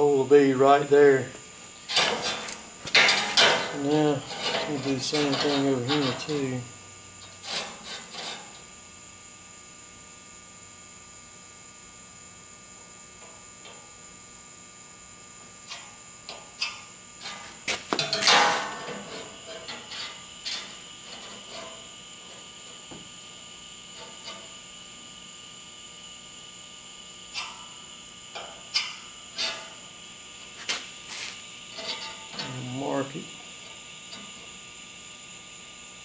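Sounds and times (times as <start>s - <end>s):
steady electrical hum: 0.0s - 36.0s.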